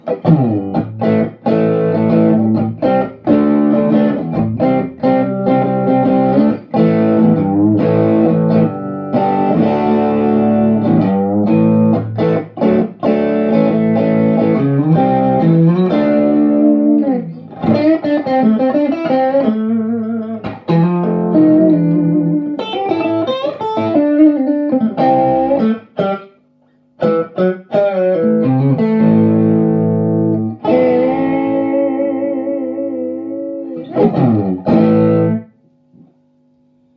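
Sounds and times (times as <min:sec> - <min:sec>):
overdriven electric guitar: 0:00.0 - 0:36.1.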